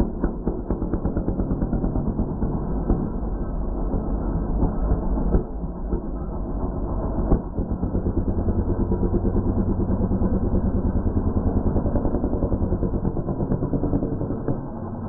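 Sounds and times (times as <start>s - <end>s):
small gas engine running hard: 0.0s - 15.0s.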